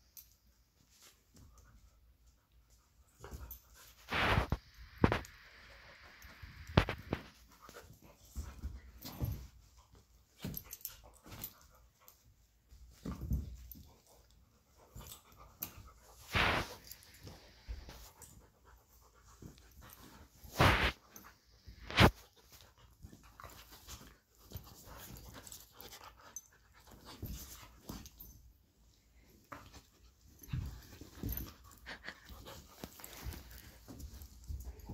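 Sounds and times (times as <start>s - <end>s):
dogs scuffling on bed: 3.2s - 5.3s, 6.2s - 28.5s, 29.2s - 34.9s.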